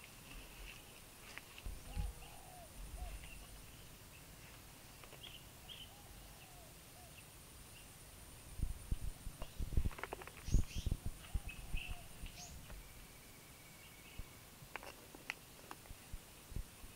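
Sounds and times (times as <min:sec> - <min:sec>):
birds calling: 0:00.0 - 0:08.0, 0:08.9 - 0:15.8.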